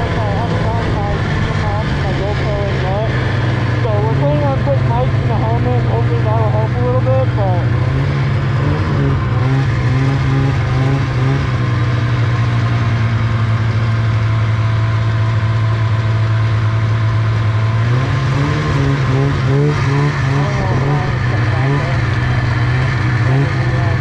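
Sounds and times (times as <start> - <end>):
snowmobile engine idling: 0.0 - 24.0.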